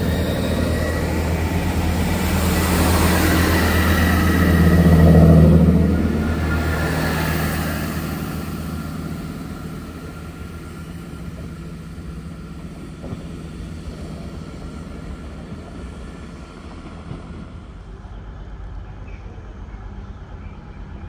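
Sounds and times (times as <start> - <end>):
diesel train engine humming: 0.0 - 21.0.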